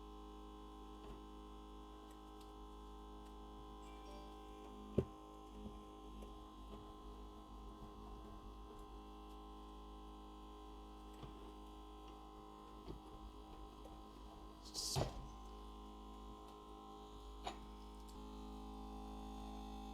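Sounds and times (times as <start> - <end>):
machine humming with vacuum: 3.8 - 19.9.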